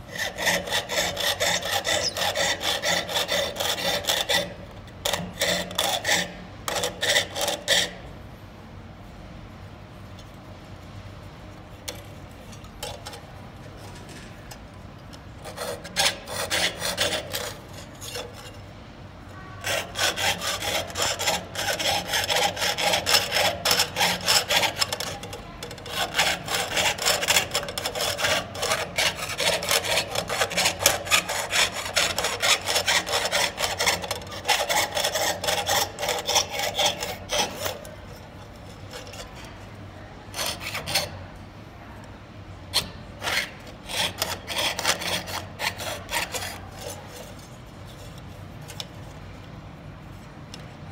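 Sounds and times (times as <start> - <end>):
saw blade rasping through metal: 0.0 - 8.0, 11.9 - 14.3, 15.2 - 18.7, 19.3 - 41.3, 42.7 - 49.1.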